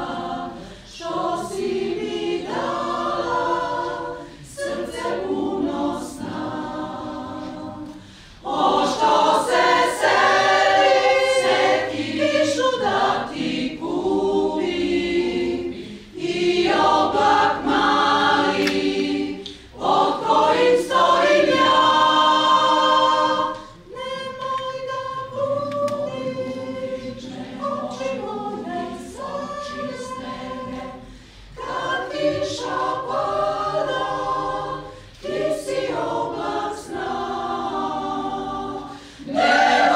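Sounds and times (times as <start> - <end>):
mixed choir singing a cappella: 0.0 - 39.9.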